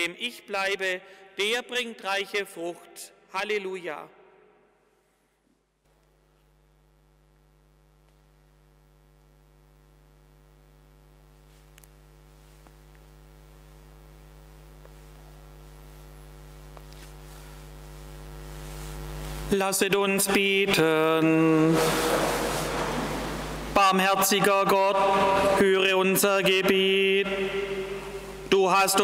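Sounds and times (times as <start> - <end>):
electrical mains hum: 5.5 - 29.0.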